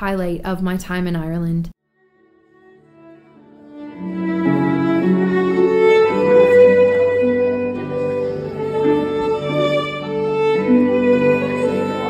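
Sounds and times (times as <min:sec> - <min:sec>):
violin playing held notes: 0:01.9 - 0:12.0.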